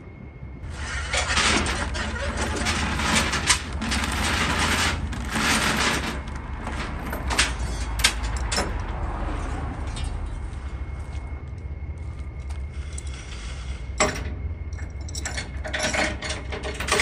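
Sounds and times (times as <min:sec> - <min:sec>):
steady low rumble: 0:00.0 - 0:16.8.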